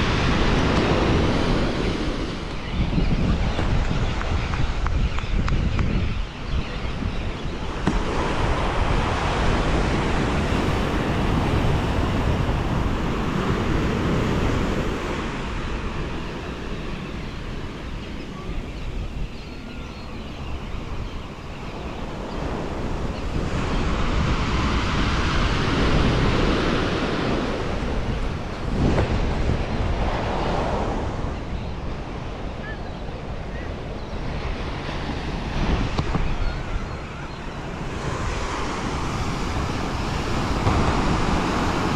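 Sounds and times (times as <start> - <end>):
ocean waves breaking: 0.0 - 5.0, 7.4 - 19.4, 20.8 - 41.9
wind buffeting microphone: 0.0 - 41.9.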